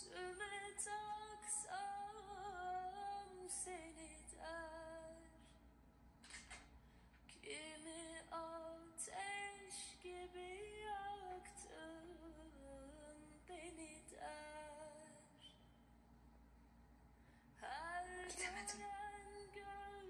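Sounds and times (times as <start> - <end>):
woman singing: 0.0 - 5.5, 7.3 - 15.5, 17.6 - 20.0.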